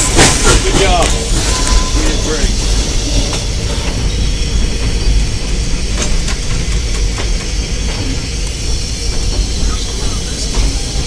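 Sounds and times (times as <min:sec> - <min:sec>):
steam hiss: 0:00.0 - 0:11.0
steam locomotive rumble: 0:00.0 - 0:11.0.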